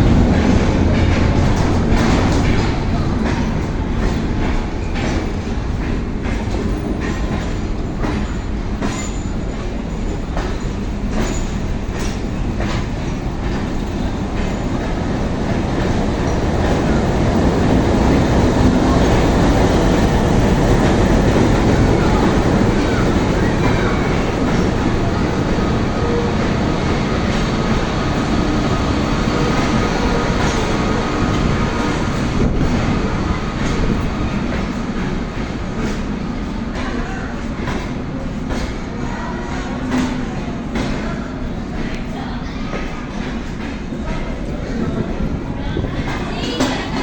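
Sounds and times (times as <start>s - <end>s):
train wheels clicking over rail joints: 0.0s - 45.4s
train rumble: 0.0s - 47.0s.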